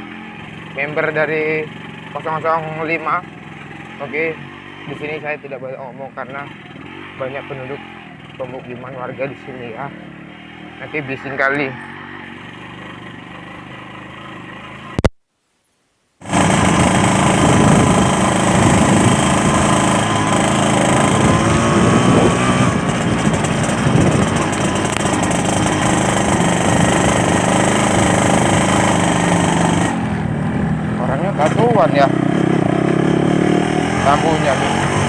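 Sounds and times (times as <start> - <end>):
two-stroke motorcycle engine: 0.0 - 15.1, 16.2 - 35.0.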